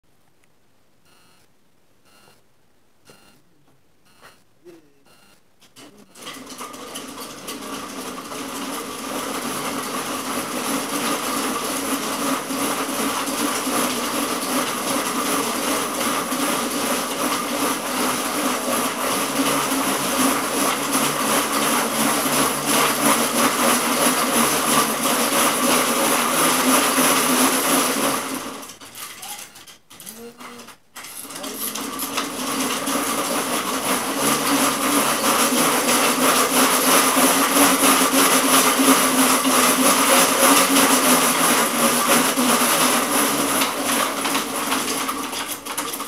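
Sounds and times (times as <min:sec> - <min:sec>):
treadmill slats rattling: 0:06.2 - 0:30.0, 0:31.0 - 0:46.0.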